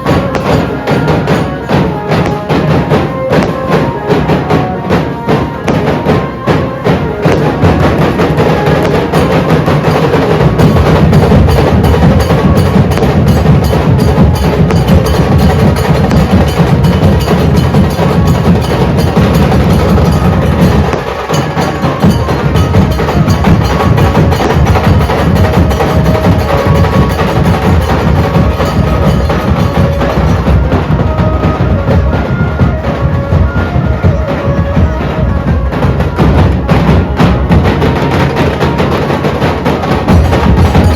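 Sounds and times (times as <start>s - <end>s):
dhol drums beating fast: 0.0s - 40.9s.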